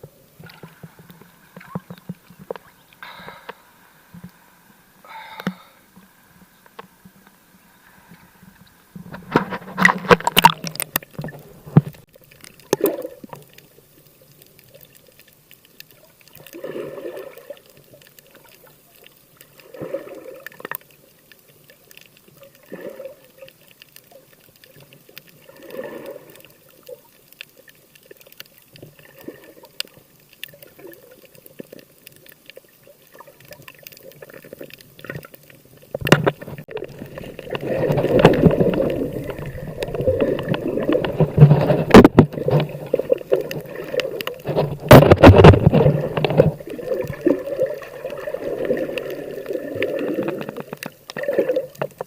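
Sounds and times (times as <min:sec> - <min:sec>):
water sloshing and gurgling: 0:00.0 - 0:52.0.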